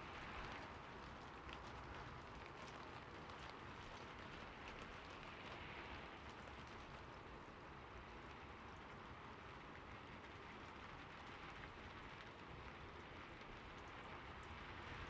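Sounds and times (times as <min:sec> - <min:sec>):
rain falling on a roof: 0:00.0 - 0:15.0.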